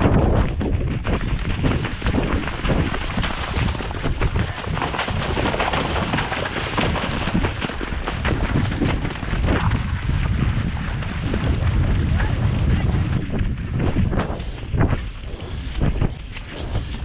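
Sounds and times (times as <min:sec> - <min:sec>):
hoofbeats splashing through water: 0:00.0 - 0:17.0
wind buffeting microphone: 0:00.0 - 0:17.0.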